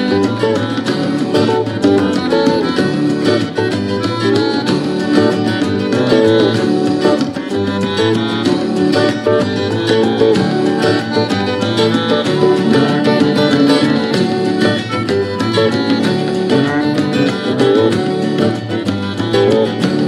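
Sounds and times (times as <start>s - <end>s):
accordion: 0.0s - 20.0s
double bass: 0.0s - 20.0s
percussion: 0.0s - 20.0s
plucked guitar: 0.0s - 20.0s.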